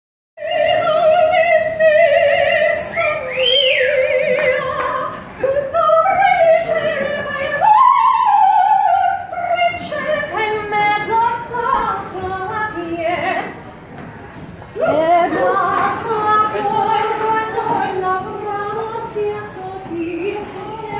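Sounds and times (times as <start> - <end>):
woman singing opera: 0.4 - 13.5, 14.8 - 20.9.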